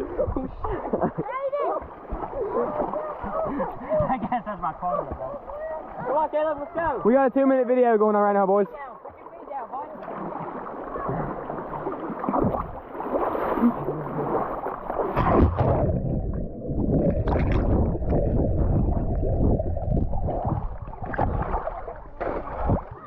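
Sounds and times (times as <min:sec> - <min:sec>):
river water sloshing and gurgling: 0:00.0 - 0:07.2, 0:08.6 - 0:23.0
water splashes: 0:00.0 - 0:23.0.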